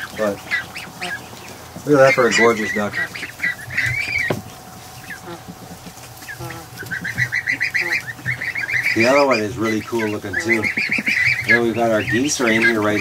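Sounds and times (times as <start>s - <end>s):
geese and ducks calling: 0.0s - 13.0s.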